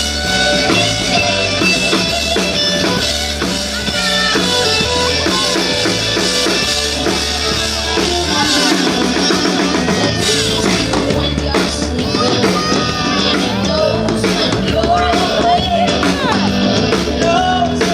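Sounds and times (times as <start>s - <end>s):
drum kit beat: 0.0s - 17.9s
electric guitar: 0.0s - 17.9s
live rock band playing: 0.0s - 17.9s.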